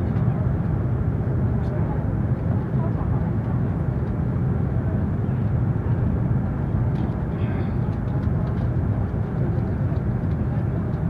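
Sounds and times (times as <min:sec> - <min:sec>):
high-speed train rumble inside car: 0:00.0 - 0:11.0.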